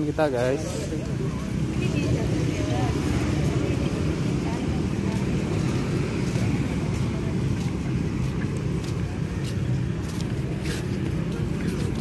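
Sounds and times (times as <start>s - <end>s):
distant traffic: 0.0s - 12.0s.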